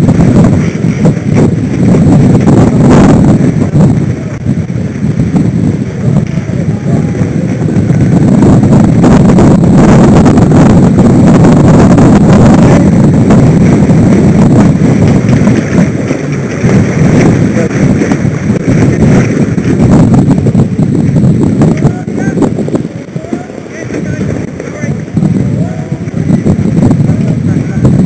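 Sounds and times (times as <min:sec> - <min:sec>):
water rushing along hull: 0:00.0 - 0:28.0
wind buffeting microphone: 0:00.0 - 0:28.0.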